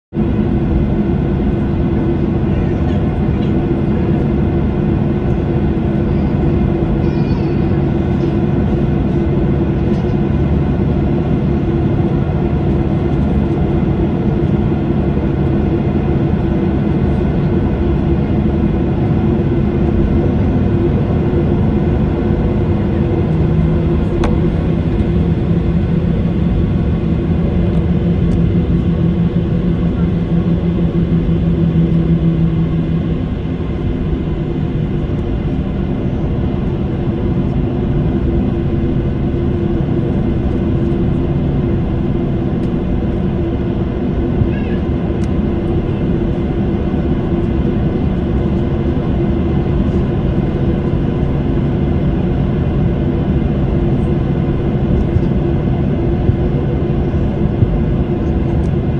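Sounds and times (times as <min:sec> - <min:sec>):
airliner cabin rumble: 0:00.1 - 0:58.9
low hum tone: 0:00.2 - 0:58.9.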